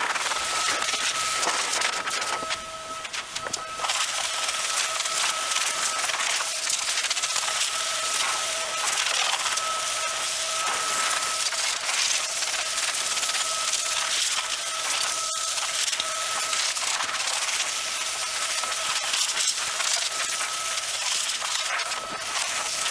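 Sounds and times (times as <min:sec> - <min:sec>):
electric cleaning tool whining: 0:00.0 - 0:22.9.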